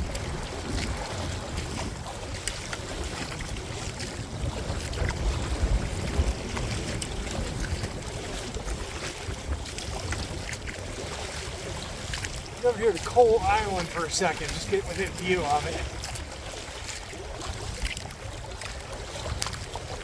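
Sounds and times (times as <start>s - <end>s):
choppy water slapping kayak: 0.0s - 20.0s
water drips and splashes: 0.0s - 20.0s
wind buffeting microphone: 0.0s - 20.0s.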